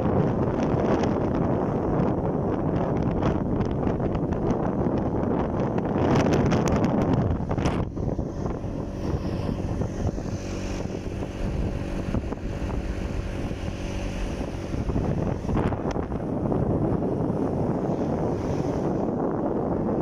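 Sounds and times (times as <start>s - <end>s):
motorcycle engine hum: 0.0s - 20.0s
wind buffeting microphone: 0.0s - 20.0s.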